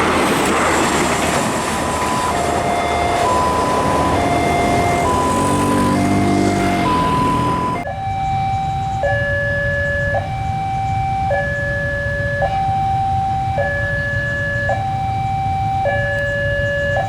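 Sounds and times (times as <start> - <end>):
two-tone warning siren: 0.0 - 17.0.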